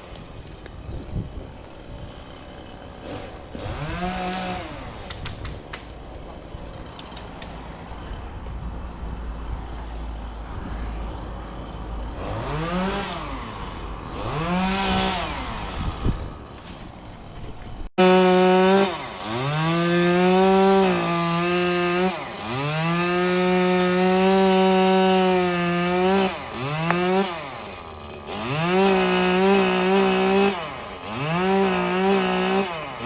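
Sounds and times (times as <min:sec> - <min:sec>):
chainsaw engine idling and revving: 0:01.7 - 0:33.0.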